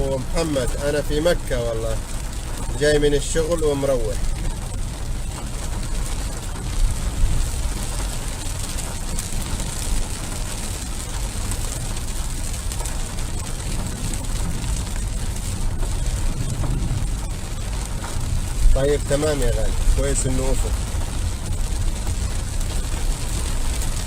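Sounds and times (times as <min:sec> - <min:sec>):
car low rumble: 0:00.0 - 0:24.0
heavy rain on a car: 0:00.0 - 0:24.0.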